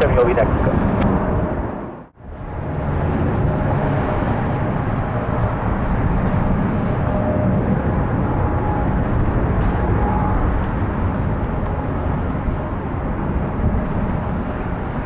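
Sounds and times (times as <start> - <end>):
airliner jet engines rushing: 0.0 - 15.0.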